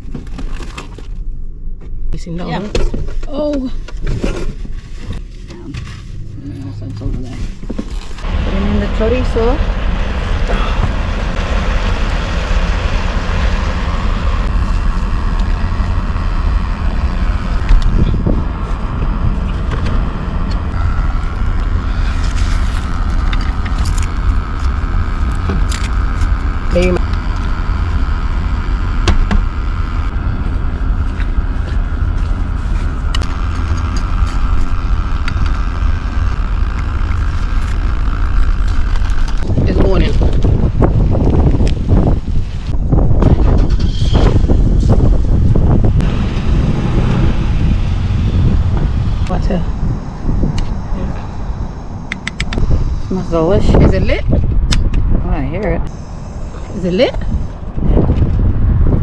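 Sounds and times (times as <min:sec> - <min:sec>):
wind buffeting microphone: 0:07.6 - 0:28.7, 0:29.4 - 0:59.0.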